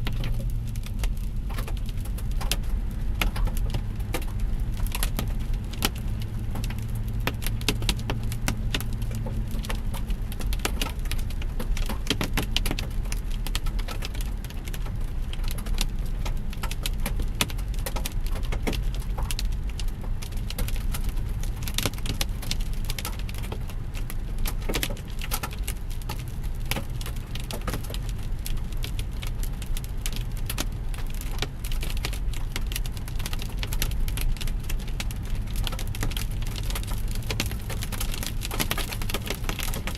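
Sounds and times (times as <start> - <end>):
car rumbling on road: 0.0 - 39.9
hail pelting a car: 0.2 - 39.9.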